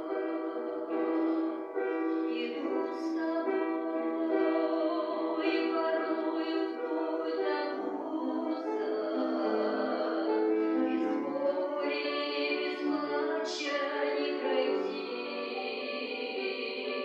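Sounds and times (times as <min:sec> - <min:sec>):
person singing a hymn: 0:00.0 - 0:17.0.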